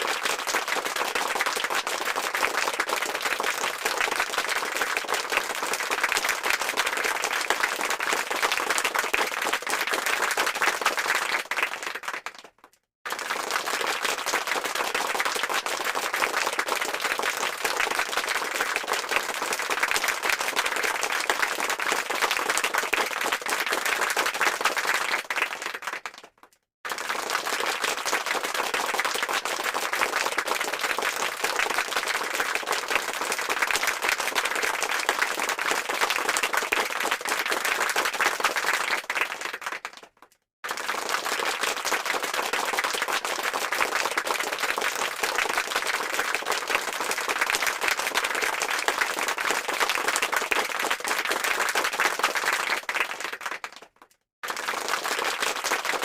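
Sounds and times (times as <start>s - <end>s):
crowd applause: 0.0s - 12.5s, 13.1s - 26.3s, 26.9s - 56.0s.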